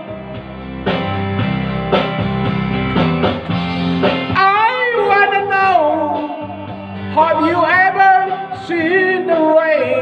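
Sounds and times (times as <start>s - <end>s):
guitar strumming chords: 0.0s - 9.3s
bending guitar melody: 0.0s - 10.0s.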